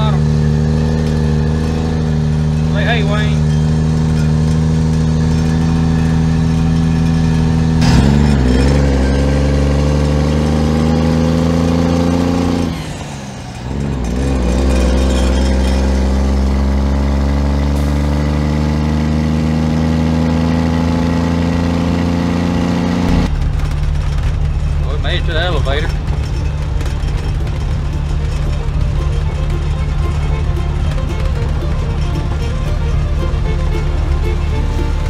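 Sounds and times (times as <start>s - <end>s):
diesel truck engine revving: 0.0s - 35.0s.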